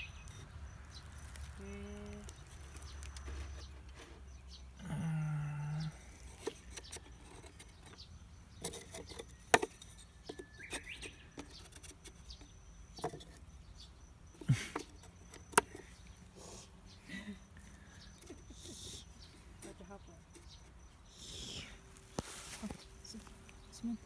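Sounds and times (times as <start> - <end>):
bird chirp: 0.0 - 24.0.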